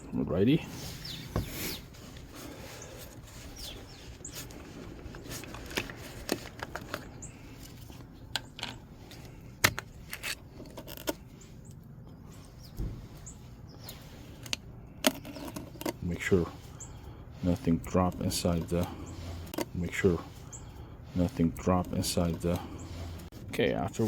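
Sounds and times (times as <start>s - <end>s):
hands handling car parts: 0.6s - 24.0s.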